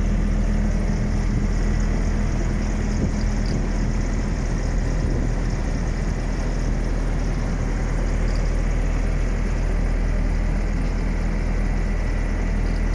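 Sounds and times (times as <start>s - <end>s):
refrigeration unit humming: 0.0s - 12.9s.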